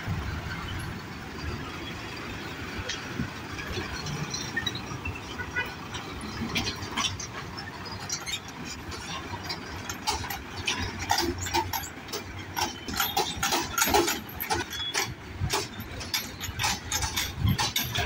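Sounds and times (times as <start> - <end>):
knocks and clatters over tracks: 0.0 - 18.0
vehicle engine rumble: 0.0 - 18.0.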